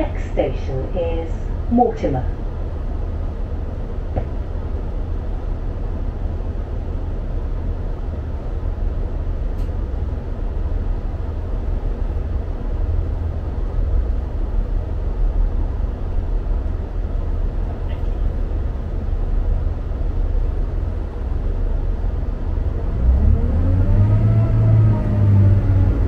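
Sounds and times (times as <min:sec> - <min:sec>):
train diesel engine rumbling: 0:00.0 - 0:26.0.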